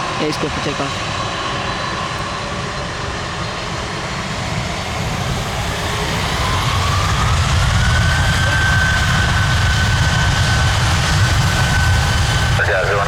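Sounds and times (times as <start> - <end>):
jet engines spooling up: 0.0 - 13.0.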